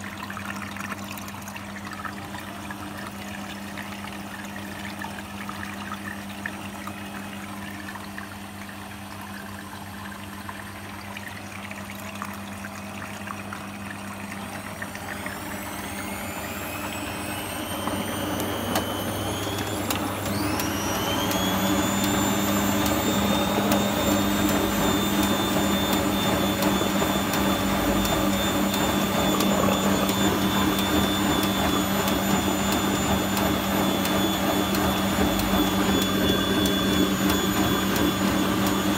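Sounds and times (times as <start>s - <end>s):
washing machine motor hum: 0.0s - 38.9s
washing machine spin whine: 0.0s - 38.9s.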